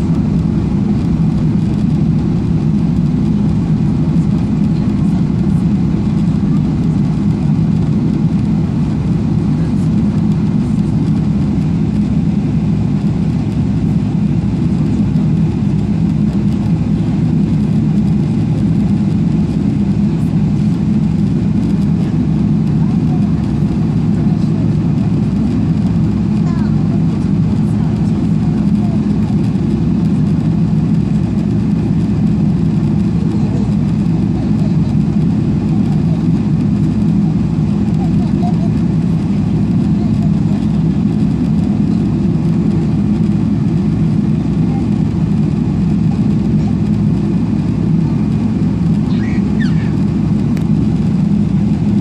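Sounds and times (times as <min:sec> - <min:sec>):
jet engines idling drone: 0:00.0 - 0:52.0.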